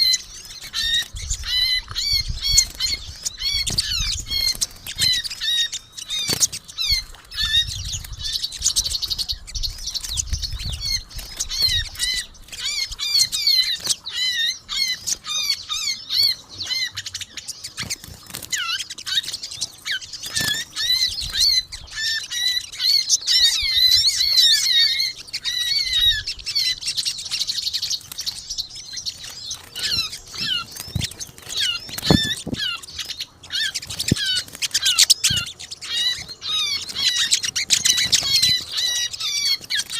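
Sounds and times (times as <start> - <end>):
birds twittering and chirping: 0.0 - 39.9.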